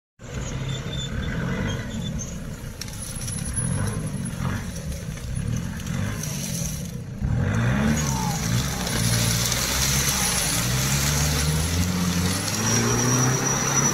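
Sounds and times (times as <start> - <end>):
engine running at low revs: 0.3 - 13.9.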